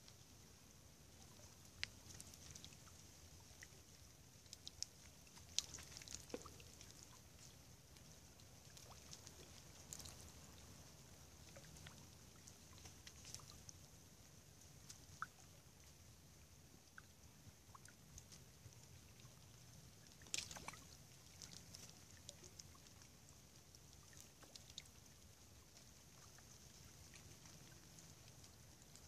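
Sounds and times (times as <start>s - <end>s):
low steady hiss: 0.0s - 29.0s
snow and meltwater dripping: 0.0s - 29.0s.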